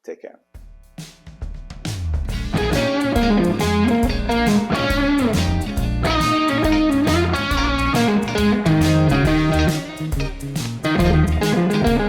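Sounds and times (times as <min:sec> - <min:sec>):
drums: 0:00.5 - 0:12.0
bass guitar: 0:02.2 - 0:12.0
electric guitar blues lead: 0:02.3 - 0:12.0.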